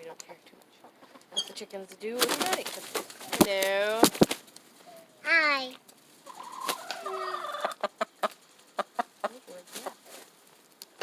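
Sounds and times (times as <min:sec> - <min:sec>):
hens clucking and squawking: 0:00.7 - 0:10.7.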